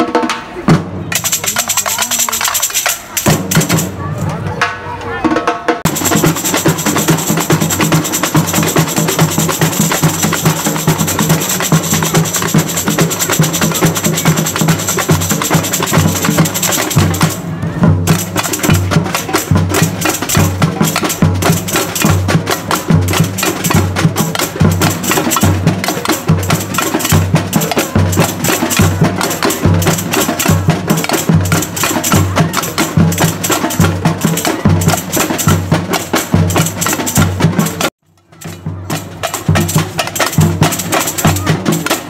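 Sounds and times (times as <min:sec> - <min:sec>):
snare drums: 0:00.0 - 0:42.0
metal-jingle shakers: 0:01.1 - 0:03.8, 0:05.9 - 0:17.4, 0:18.1 - 0:42.0.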